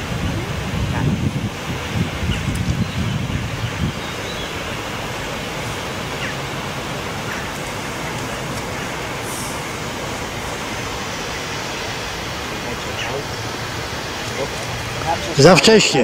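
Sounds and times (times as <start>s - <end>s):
wind blowing: 0.0s - 16.0s
wind buffeting microphone: 0.0s - 16.0s.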